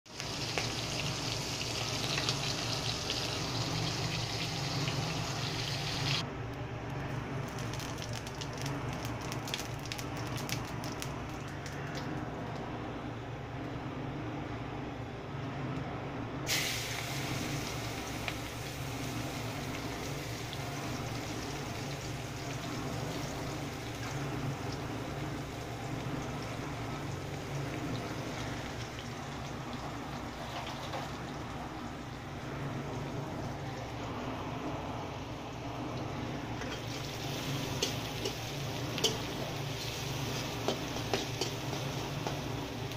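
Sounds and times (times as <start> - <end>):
sizzle of frying: 0.1 - 6.2, 7.0 - 12.2, 16.5 - 42.9
low steady hum: 0.1 - 42.9.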